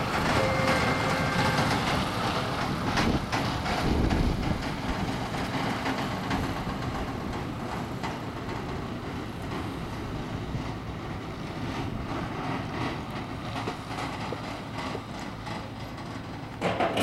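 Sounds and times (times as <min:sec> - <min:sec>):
jet airliner engine roar: 0:00.0 - 0:17.0.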